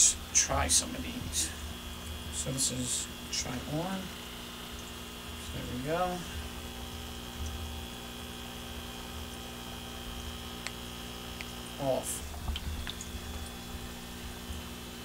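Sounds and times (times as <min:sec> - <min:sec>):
aquarium air pump humming: 0:00.0 - 0:15.0
high whine: 0:00.0 - 0:15.0.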